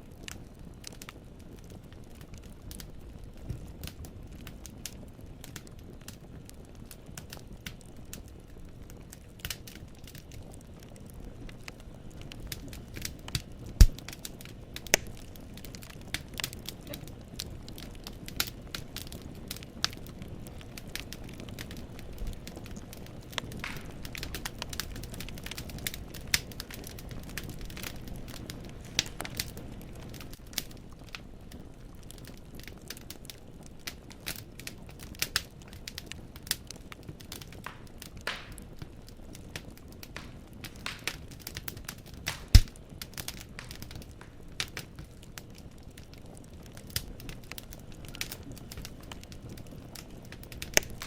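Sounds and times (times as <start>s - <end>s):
low rumble of flame: 0.0s - 51.0s
wood fire crackling: 0.0s - 51.0s.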